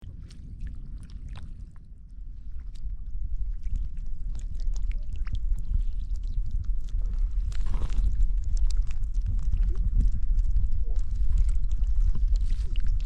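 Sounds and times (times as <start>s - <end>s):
low rumble: 0.0s - 13.0s
water sloshing and splashing: 0.0s - 13.0s.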